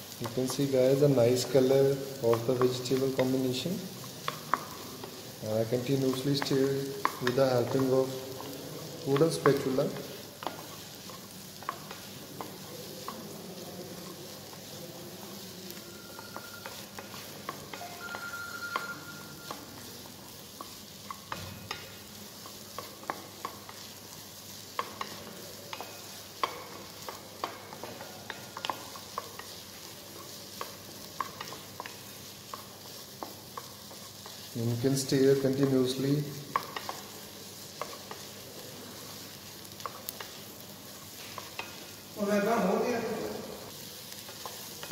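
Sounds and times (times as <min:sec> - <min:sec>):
vegetables sizzling in a saucepan: 0:00.0 - 0:44.9
wooden spatula scraping a pan: 0:00.0 - 0:44.9.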